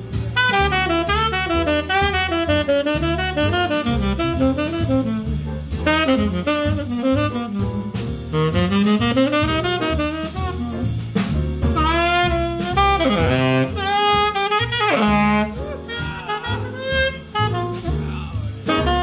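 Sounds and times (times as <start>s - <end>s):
drum kit: 0.0s - 19.0s
upright bass: 0.0s - 19.0s
tenor saxophone soloing: 0.3s - 11.1s, 11.7s - 19.0s.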